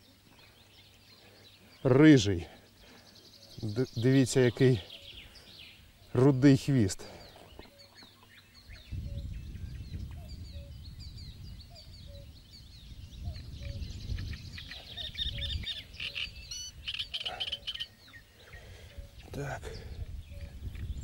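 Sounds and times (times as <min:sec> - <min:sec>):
birds chirping and singing: 0:00.0 - 0:21.0.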